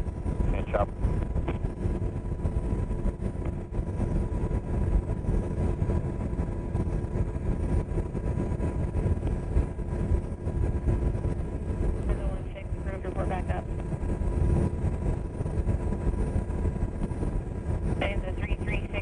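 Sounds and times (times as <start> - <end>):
faint steady tones: 0.0 - 19.0
helicopter rotor and turbine rumble: 0.0 - 19.0.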